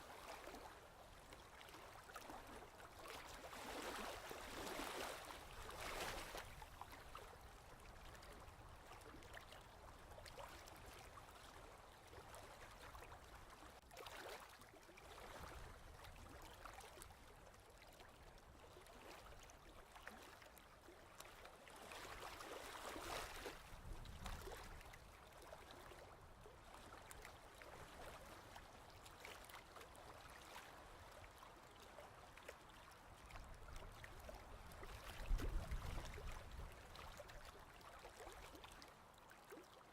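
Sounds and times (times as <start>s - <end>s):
faint ocean waves: 0.0s - 39.8s.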